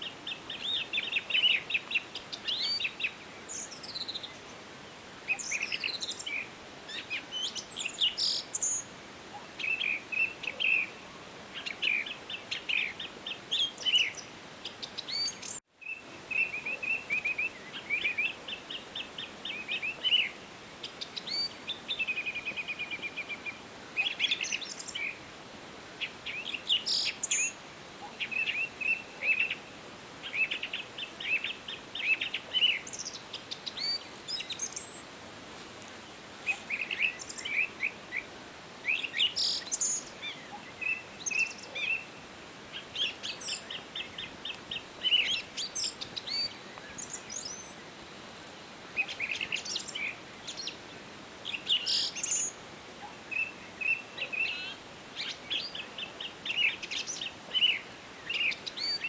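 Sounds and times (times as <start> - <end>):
songbirds singing: 0.0 - 25.4, 26.0 - 59.0
faint steady hiss: 0.0 - 59.0.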